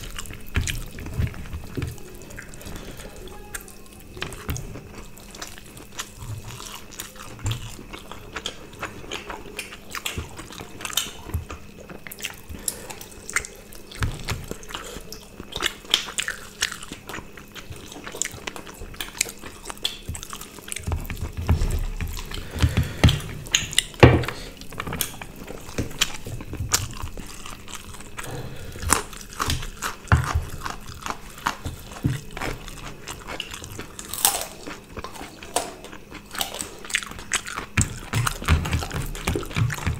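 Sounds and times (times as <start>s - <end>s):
faint steady hum: 0.0s - 39.9s
people chewing food: 0.0s - 39.9s.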